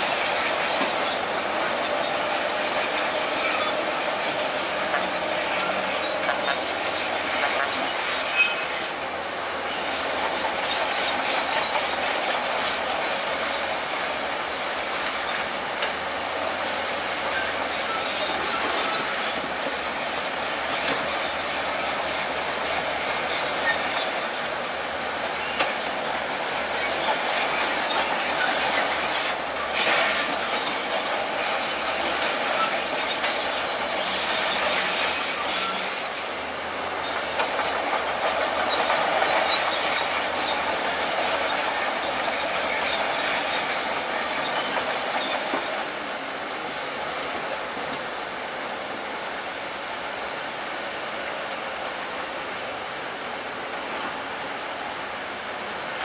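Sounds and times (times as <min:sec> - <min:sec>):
bulldozer engine: 0:00.0 - 0:56.0
crawler tracks clanking and squealing: 0:00.0 - 0:56.0.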